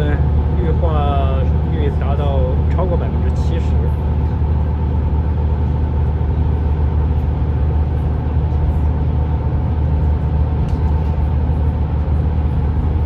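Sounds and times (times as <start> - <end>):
car engine drone: 0.0 - 13.0
road noise: 0.0 - 13.0.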